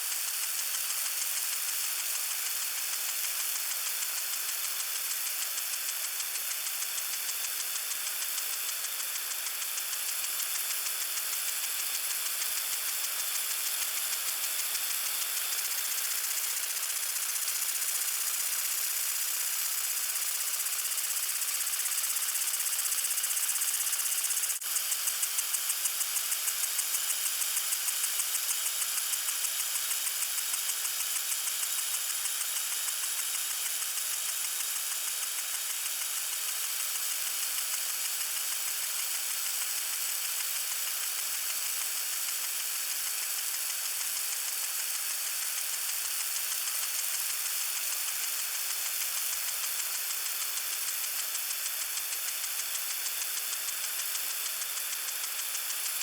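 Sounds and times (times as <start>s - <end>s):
lawn sprinkler spraying water: 0.0s - 56.0s.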